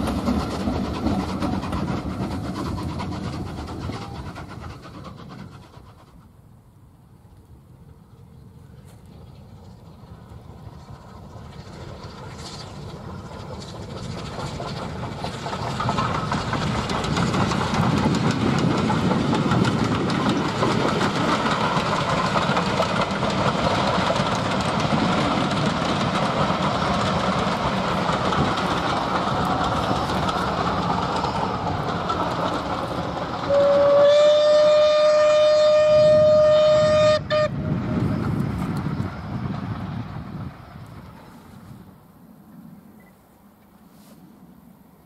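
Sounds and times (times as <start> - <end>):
wheels on rails: 0.0 - 6.5, 7.1 - 42.0
steam locomotive passing: 0.0 - 45.0.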